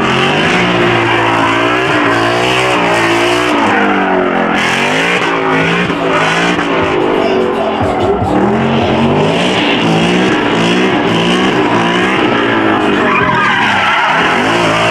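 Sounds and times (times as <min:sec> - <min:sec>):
car engine revving hard: 0:00.0 - 0:14.9
tyre squeal: 0:00.0 - 0:14.9.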